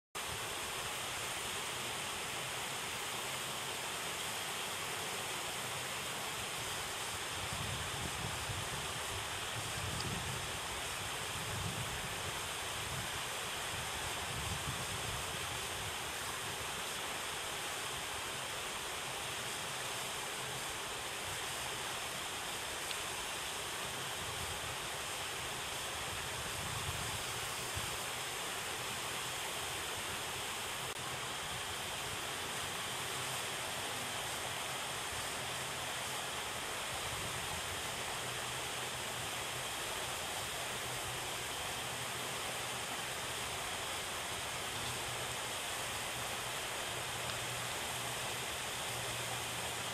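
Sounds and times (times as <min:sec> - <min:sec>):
water pouring over spillway: 0:00.2 - 0:49.9.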